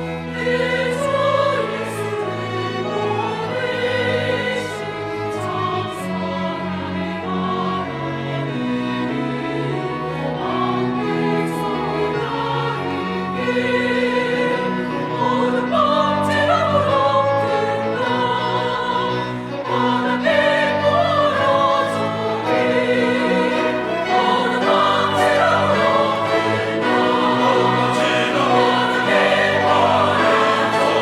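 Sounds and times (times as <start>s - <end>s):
chamber orchestra accompaniment: 0.0s - 31.0s
choir singing a hymn: 0.0s - 31.0s.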